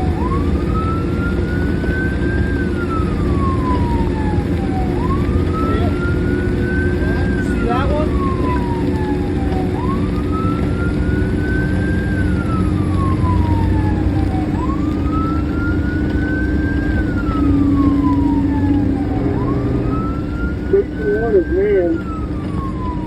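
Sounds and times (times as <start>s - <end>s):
fire engine siren wailing: 0.0s - 23.0s
low engine rumble: 0.0s - 23.0s.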